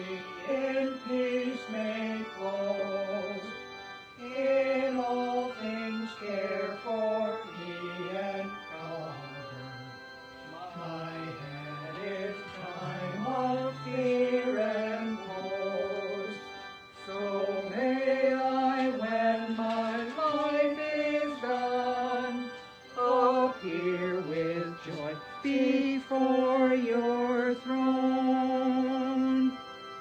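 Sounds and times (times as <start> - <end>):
hymn singing: 0.0 - 30.0
musical accompaniment: 0.0 - 30.0.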